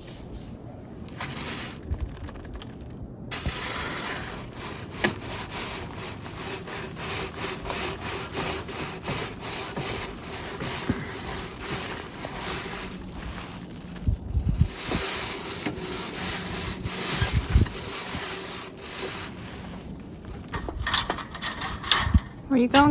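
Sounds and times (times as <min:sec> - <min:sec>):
chimney brush scraping pipe: 0:01.1 - 0:21.7.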